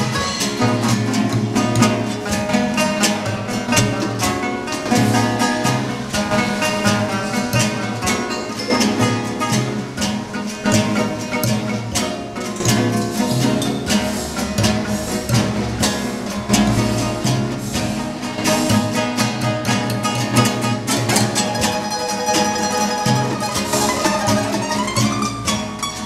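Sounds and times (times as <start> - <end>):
acoustic guitars strumming: 0.0 - 26.0
picked guitar melody: 0.0 - 26.0.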